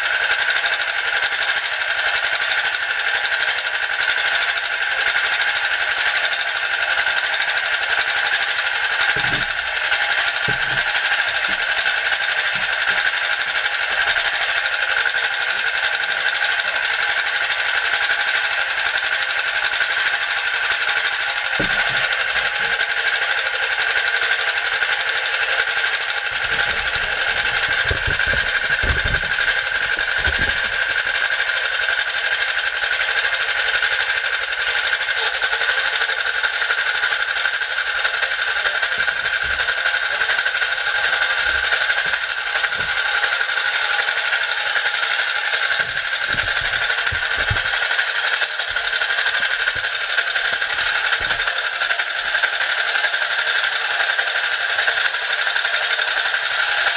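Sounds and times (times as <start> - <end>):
small engine idling: 0.0 - 56.9.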